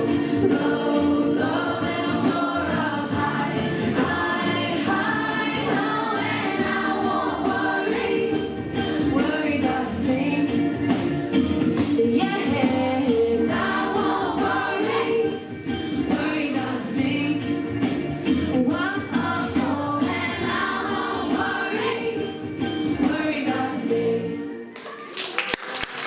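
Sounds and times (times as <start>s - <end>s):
group of voices singing: 0.0s - 17.6s, 18.5s - 24.7s
instrumental backing with percussion: 0.0s - 23.8s.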